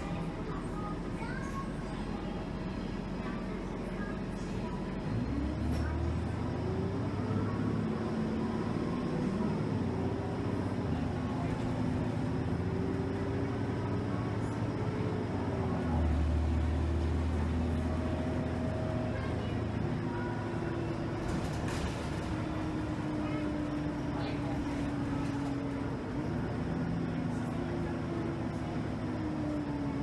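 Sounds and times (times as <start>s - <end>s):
bus engine running: 0.0s - 30.0s
low road rumble: 0.0s - 30.0s.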